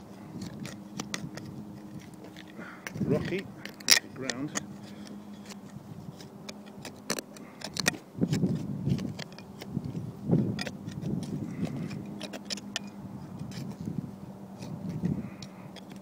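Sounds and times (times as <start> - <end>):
trowel scraping soil: 0.0 - 16.0
metal blade clicking on stones: 0.4 - 13.8, 14.6 - 16.0.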